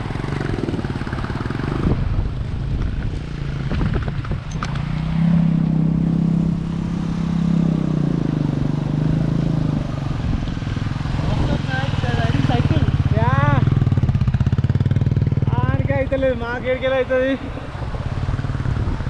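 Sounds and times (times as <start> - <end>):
vehicle engine running: 0.0 - 16.6.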